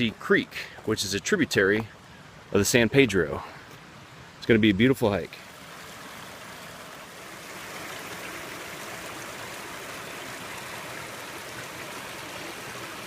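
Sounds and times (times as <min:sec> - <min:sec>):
water flowing over rocks: 0:00.0 - 0:13.0.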